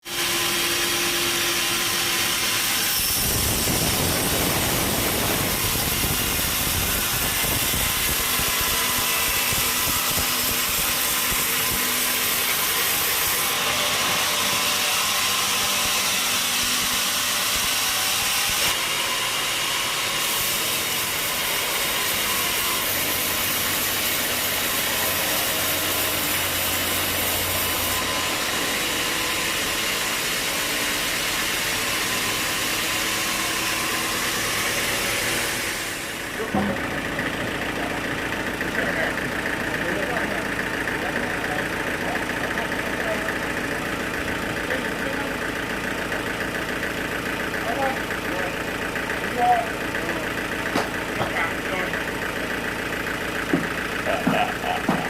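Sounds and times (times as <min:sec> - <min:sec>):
sawmill machinery cutting timber: 0:00.0 - 0:55.0.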